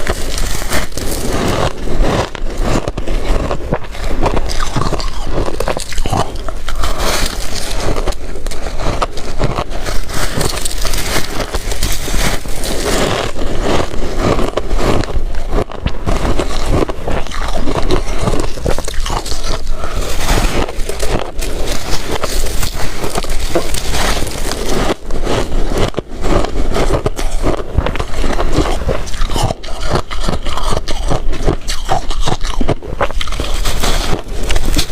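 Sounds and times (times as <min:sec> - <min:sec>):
person chewing crunchy ice: 0:00.0 - 0:34.9.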